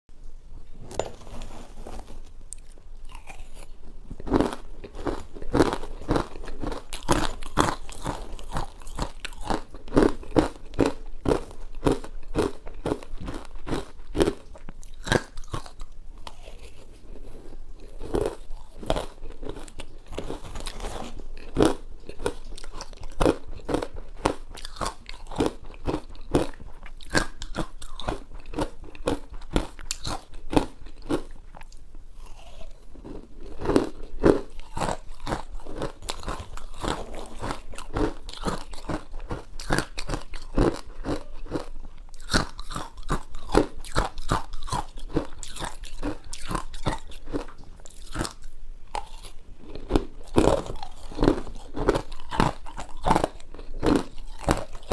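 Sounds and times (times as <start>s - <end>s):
ice crunching while chewed: 1.0s - 54.9s.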